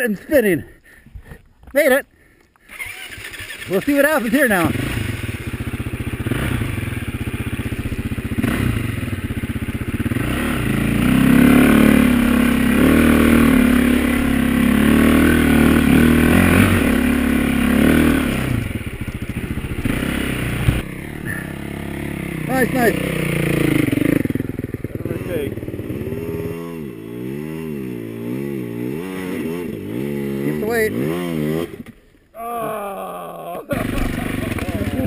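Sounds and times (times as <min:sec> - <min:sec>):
dirt bike engine revving: 0:02.6 - 0:32.6, 0:33.6 - 0:35.0.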